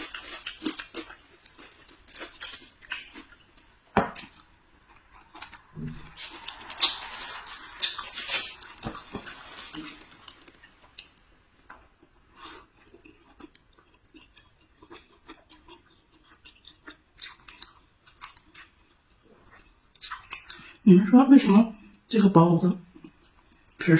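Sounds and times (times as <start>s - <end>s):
chewing: 0.0s - 20.8s, 22.9s - 23.8s
food crackling and rustling: 0.0s - 20.8s.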